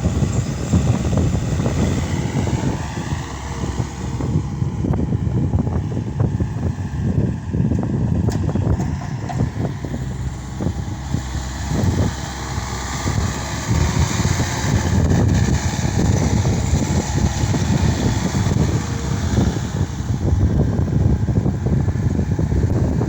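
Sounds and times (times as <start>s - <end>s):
loader diesel engine working: 0.0s - 23.0s.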